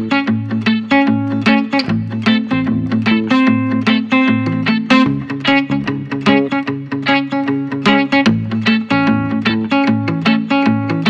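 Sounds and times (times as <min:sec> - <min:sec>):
plucked guitar-like melody: 0:00.0 - 0:11.0.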